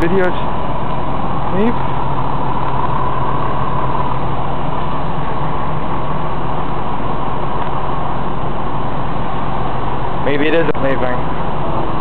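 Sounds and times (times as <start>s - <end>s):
diesel tram engine drone: 0.0s - 12.0s.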